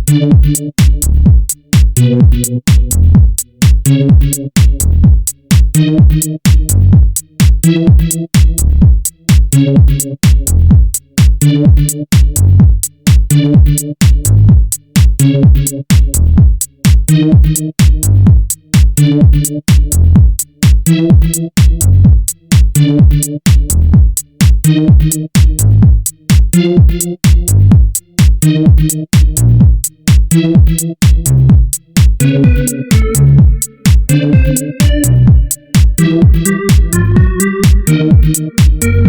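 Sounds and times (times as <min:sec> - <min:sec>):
electronic dance music: 0:00.0 - 0:39.0.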